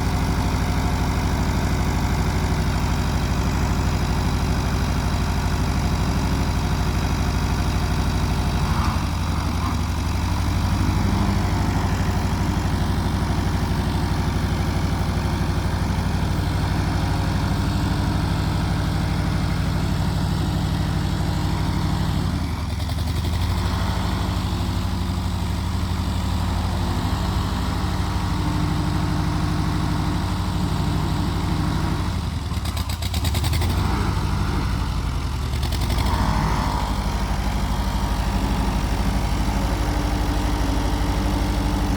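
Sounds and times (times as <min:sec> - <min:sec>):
tractor engine idling: 0:00.0 - 0:41.9.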